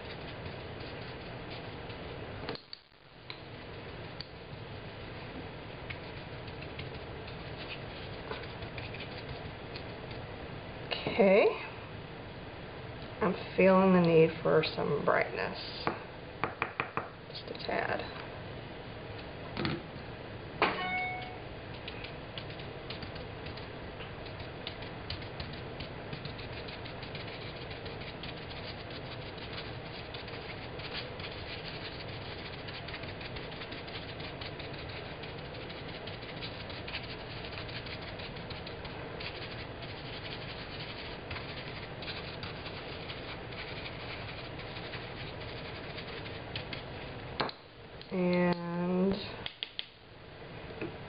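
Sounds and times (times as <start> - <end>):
background hum: 0.0 - 51.0.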